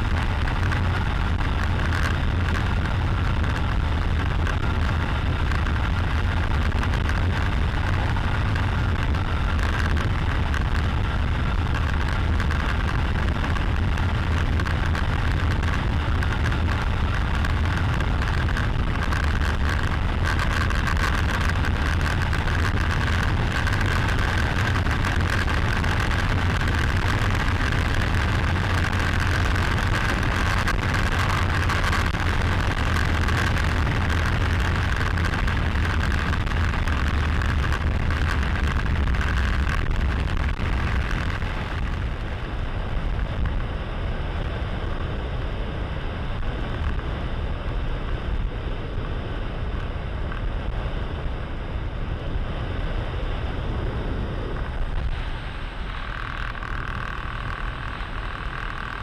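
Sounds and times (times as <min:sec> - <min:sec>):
airplane engine droning: 0:00.0 - 0:59.0
wind rush: 0:00.0 - 0:59.0.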